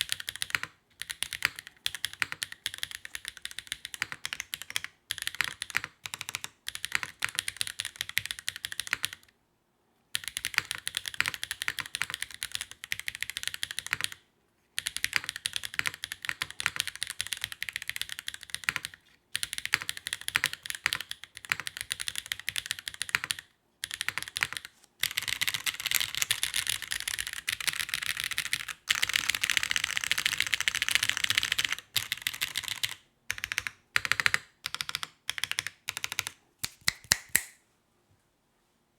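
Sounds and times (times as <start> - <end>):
mechanical keyboard typing: 0.0 - 9.3, 10.2 - 14.2, 14.8 - 37.4.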